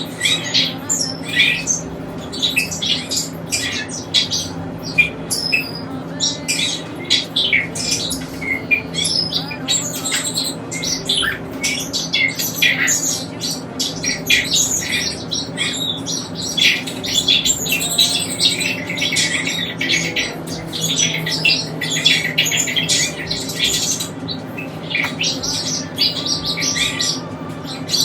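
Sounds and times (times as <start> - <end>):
caged birds chirping and squawking: 0.0 - 28.0
steady low hum: 0.0 - 28.0.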